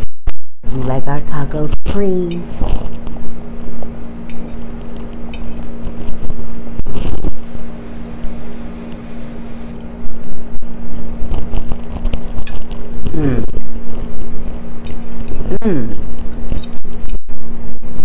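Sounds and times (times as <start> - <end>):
steady hum: 0.6 - 18.0.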